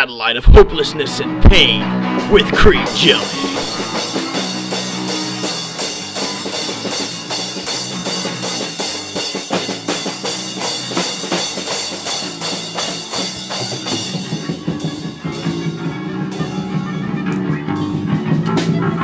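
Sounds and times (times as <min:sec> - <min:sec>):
drum kit fast rhythm: 0:00.0 - 0:19.0
rock music: 0:00.0 - 0:19.0.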